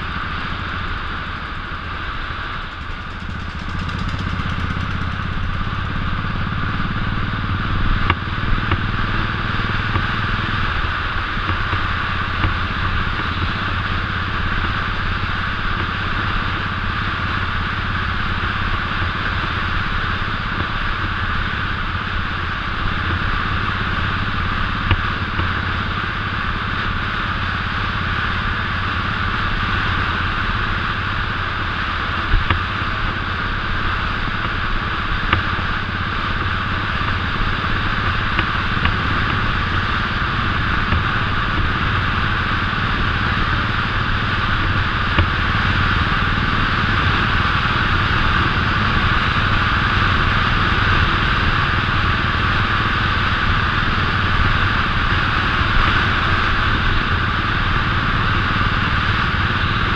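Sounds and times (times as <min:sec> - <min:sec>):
constant rushing noise: 0:00.0 - 0:59.9
motorcycle engine cruising: 0:00.0 - 0:59.9.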